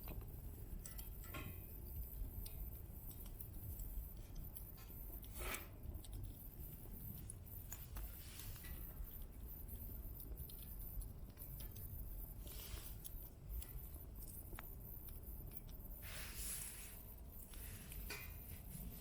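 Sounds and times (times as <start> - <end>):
small fire crackling: 0.0 - 19.0.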